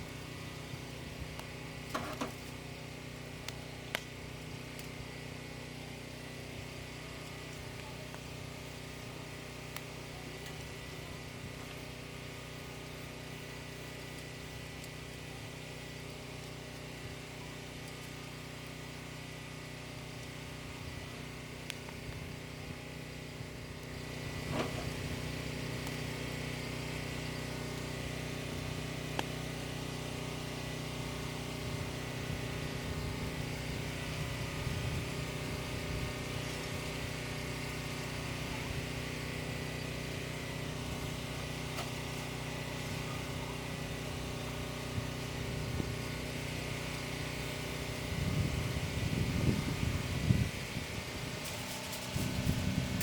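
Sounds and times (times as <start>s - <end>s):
small engine humming: 0.0s - 53.0s.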